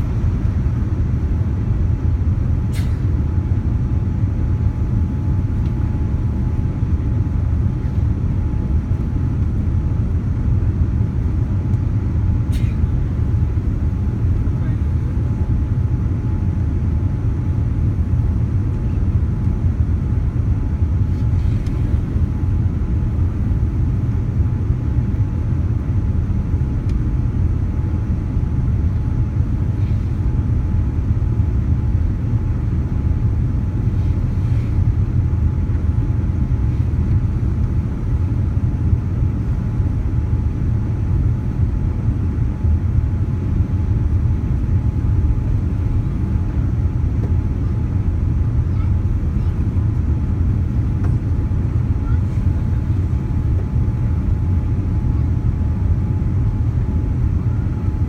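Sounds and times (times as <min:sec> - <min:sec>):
airliner cabin rumble: 0:00.0 - 0:58.0
faint steady whine: 0:00.0 - 0:58.0.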